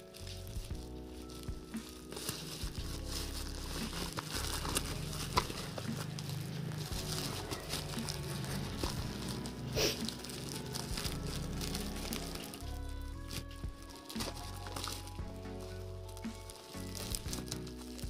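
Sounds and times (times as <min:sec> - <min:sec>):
plastic packaging crinkling: 0:00.0 - 0:18.0
soft background music: 0:00.0 - 0:18.0.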